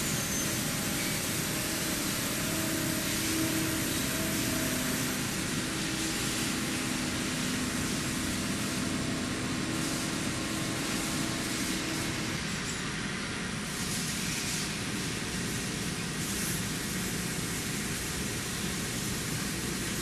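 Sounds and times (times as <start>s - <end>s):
milling machine hum and hiss: 0.0s - 20.0s.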